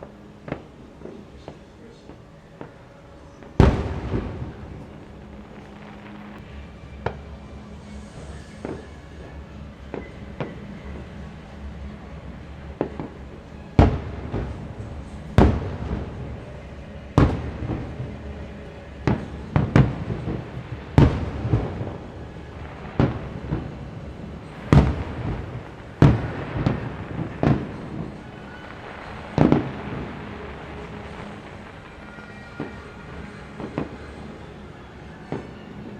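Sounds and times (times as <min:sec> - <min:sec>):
distant fireworks booms: 0:00.0 - 0:35.9.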